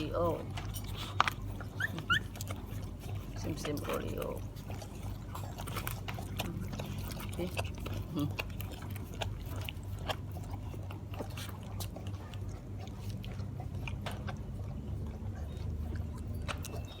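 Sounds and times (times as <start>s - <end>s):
dog chewing: 0.0s - 17.0s
steady low hum: 0.0s - 17.0s.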